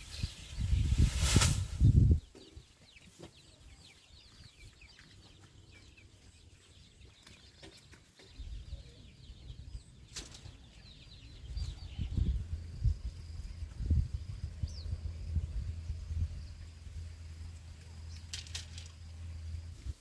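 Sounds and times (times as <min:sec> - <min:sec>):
birds chirping: 0:00.0 - 0:01.1, 0:01.7 - 0:20.0.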